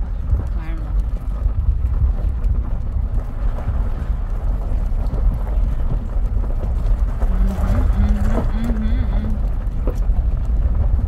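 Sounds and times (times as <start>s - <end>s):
car rumbling on gravel road: 0.0s - 11.0s.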